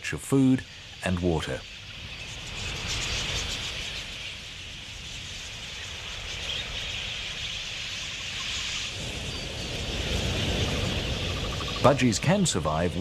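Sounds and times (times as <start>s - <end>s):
flock of budgerigars chattering: 0.3s - 13.0s.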